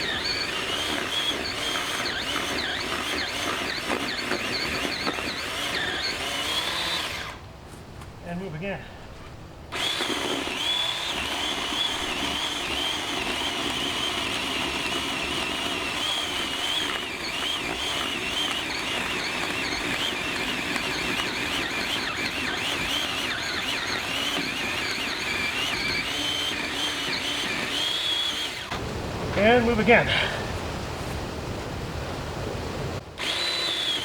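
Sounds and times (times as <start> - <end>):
electric chainsaw cutting wood: 0.0 - 7.4, 9.7 - 28.9, 33.2 - 34.0.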